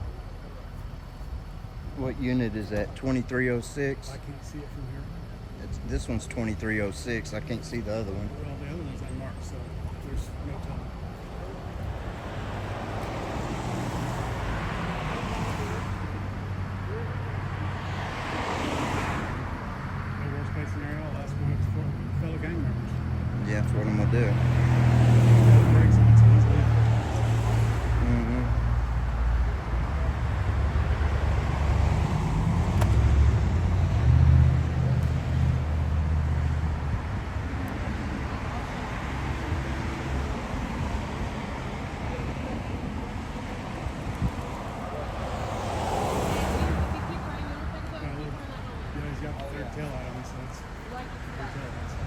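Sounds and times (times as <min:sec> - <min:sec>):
low engine hum: 0:00.0 - 0:52.0
passing cars: 0:00.0 - 0:52.0
road traffic noise: 0:00.0 - 0:52.0.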